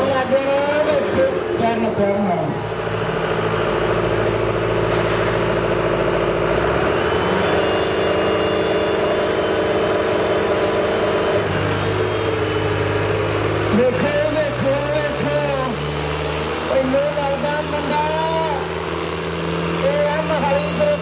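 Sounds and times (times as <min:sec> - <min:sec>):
diesel tractor engines under load: 0:00.0 - 0:21.0.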